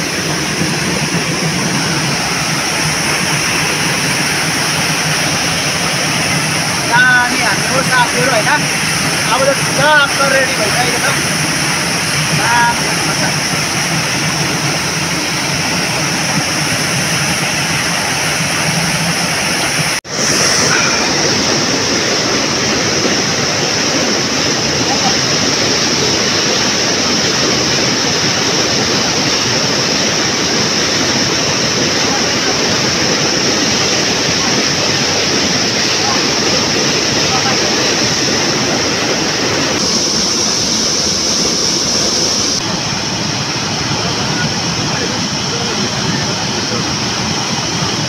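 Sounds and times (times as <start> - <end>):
stream rushing: 0.0 - 48.0.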